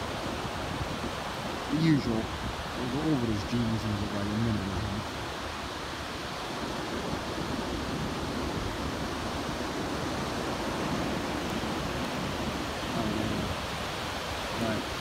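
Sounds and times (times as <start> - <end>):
ocean surf washing up: 0.0 - 15.0.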